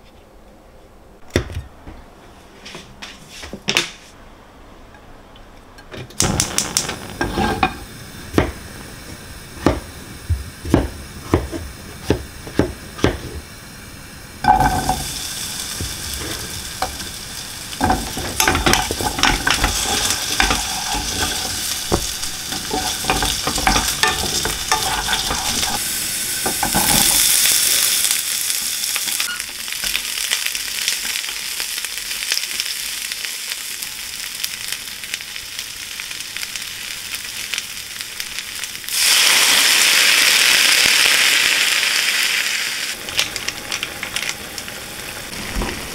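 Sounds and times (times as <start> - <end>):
food sizzling in a hot pan: 6.2 - 45.9.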